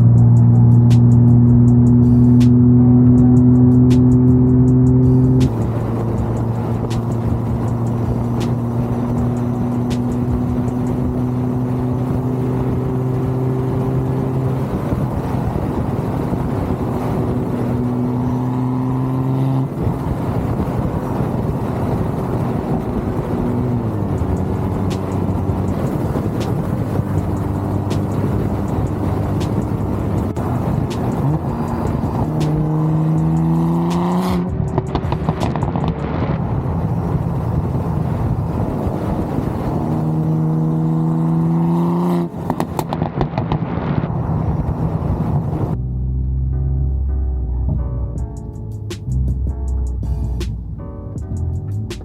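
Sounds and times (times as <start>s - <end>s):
car engine droning: 0.0s - 52.0s
road noise: 0.0s - 52.0s.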